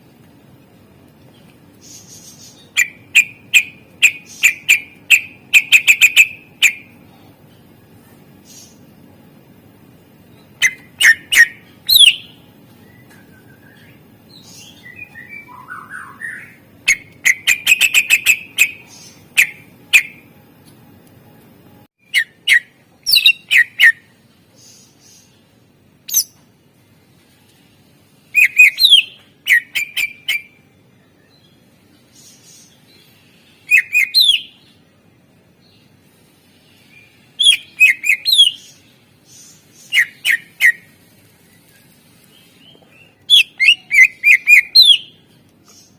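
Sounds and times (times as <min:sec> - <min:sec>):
bird singing varied song: 0:01.2 - 0:07.7, 0:10.2 - 0:20.3, 0:22.0 - 0:26.5, 0:28.2 - 0:45.9.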